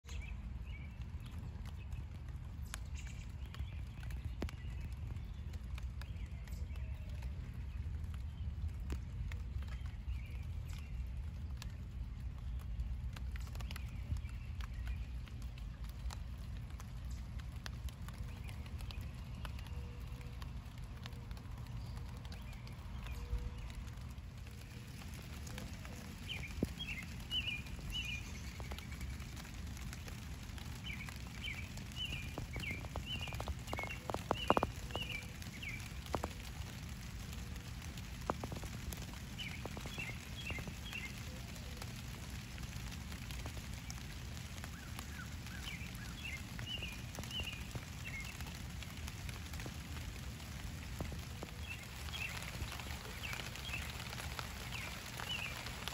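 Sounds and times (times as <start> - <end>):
songbird chirping: 0.0 - 55.9
steady low rumble: 0.1 - 55.9.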